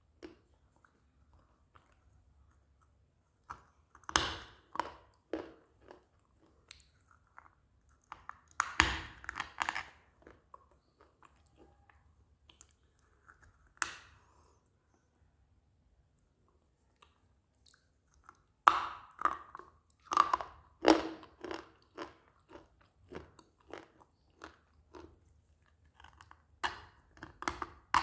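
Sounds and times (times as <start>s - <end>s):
chewing: 0.2s - 4.1s, 4.8s - 14.6s, 16.9s - 28.0s.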